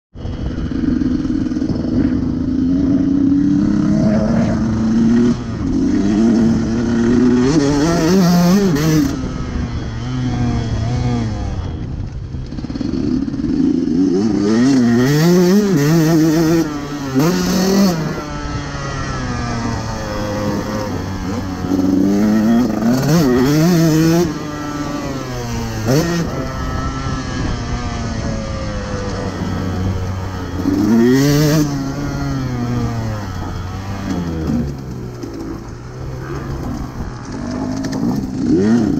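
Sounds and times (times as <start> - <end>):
motocross bike engine revving: 0.2 - 38.9.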